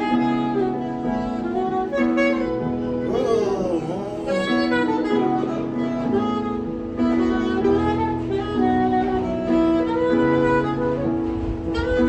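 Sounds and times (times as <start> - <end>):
saxophone and bowed strings chords: 0.0 - 10.8.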